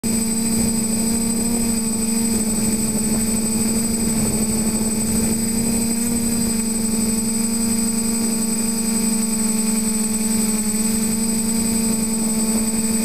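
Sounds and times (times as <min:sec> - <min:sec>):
quadcopter propellers buzzing: 0:00.0 - 0:13.0
thin high whine: 0:00.0 - 0:13.0.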